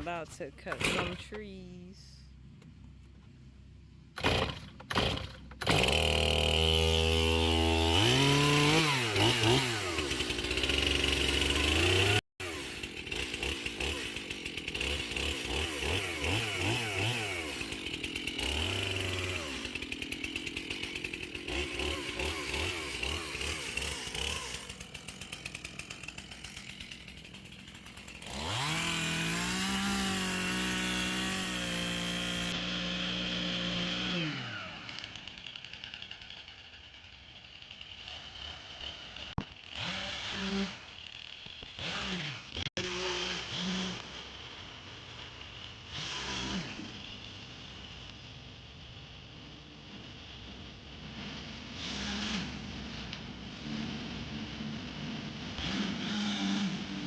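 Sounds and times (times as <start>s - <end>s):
chainsaw cutting and revving: 0.0s - 1.6s, 4.2s - 57.0s.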